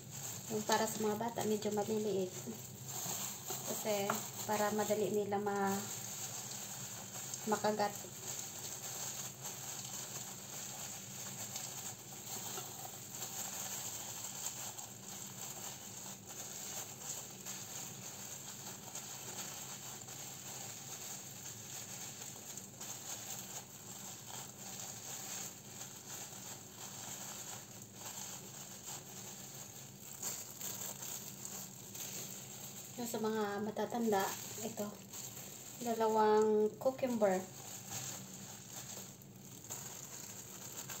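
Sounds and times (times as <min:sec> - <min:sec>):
plastic gloves crinkling: 0:00.0 - 0:41.0.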